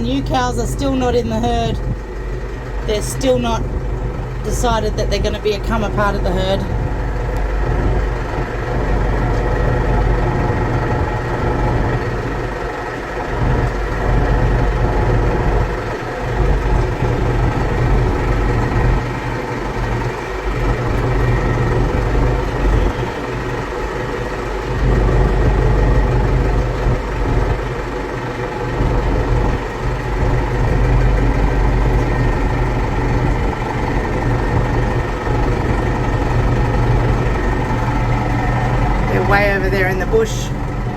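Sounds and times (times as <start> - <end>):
tractor engine rumbling: 0.0 - 40.9.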